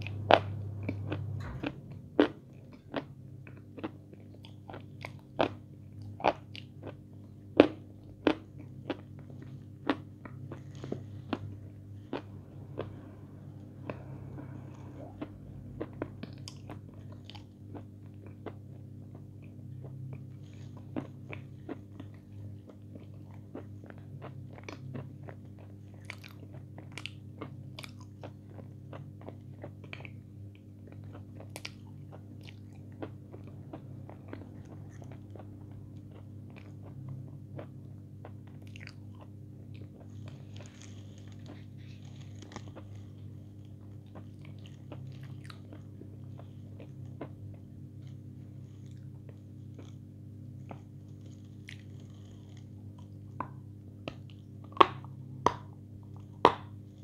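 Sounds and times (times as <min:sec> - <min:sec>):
close chewing with crunches: 0:00.0 - 0:57.0
steady low hum: 0:00.0 - 0:57.0.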